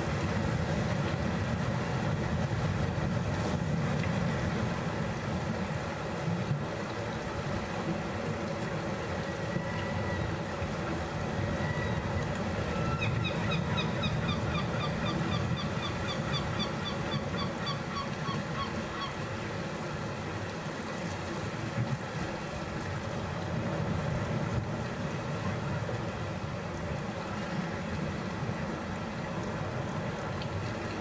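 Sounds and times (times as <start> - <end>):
sea waves on rocky shore: 0.0 - 31.0
wind: 0.0 - 31.0.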